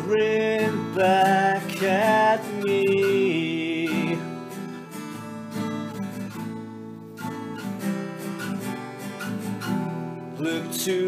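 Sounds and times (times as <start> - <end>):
strummed guitar chords: 0.0 - 11.0.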